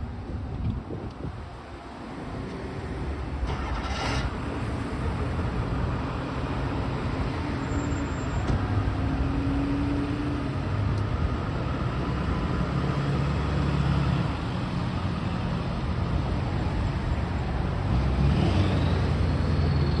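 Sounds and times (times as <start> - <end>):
vehicles driving past: 0.0 - 20.0.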